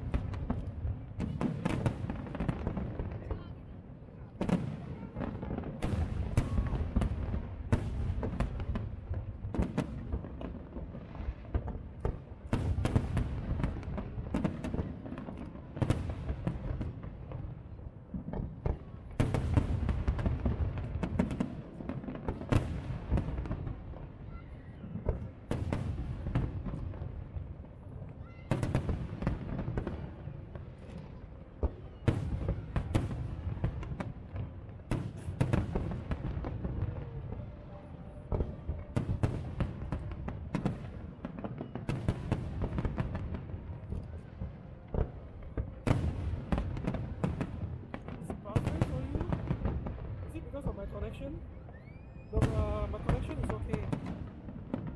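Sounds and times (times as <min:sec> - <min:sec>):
fireworks bangs and booms: 0:00.0 - 0:54.9.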